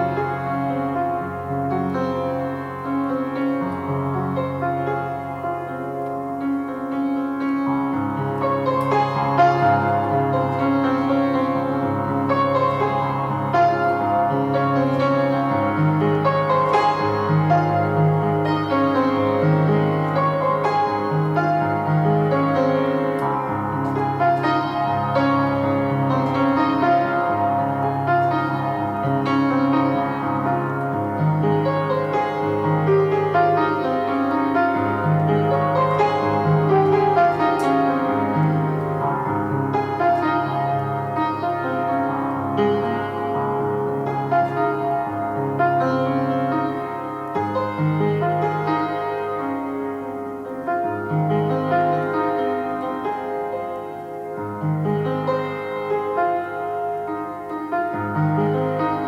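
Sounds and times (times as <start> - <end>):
slow piano music: 0.0 - 59.0.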